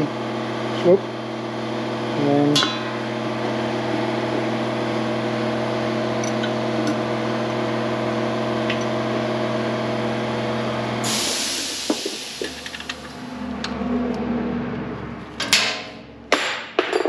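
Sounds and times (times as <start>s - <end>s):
hydraulic pump motor humming: 0.0s - 15.0s.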